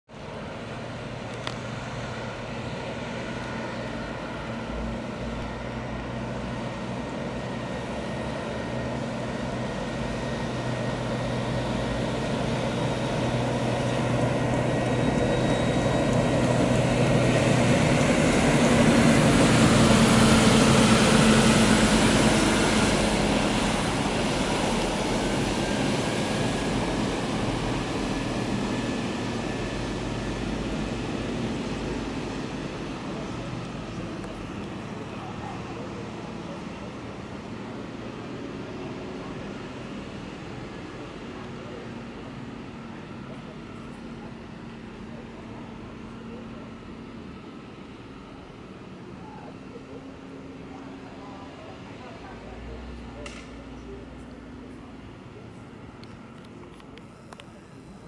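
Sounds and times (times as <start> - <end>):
bus drive hum: 0.1 - 58.0.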